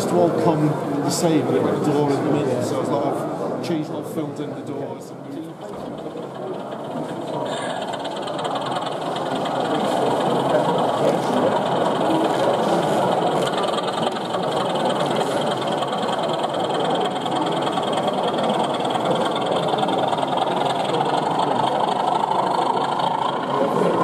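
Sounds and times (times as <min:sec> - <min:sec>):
model locomotive droning: 0:00.0 - 0:24.0.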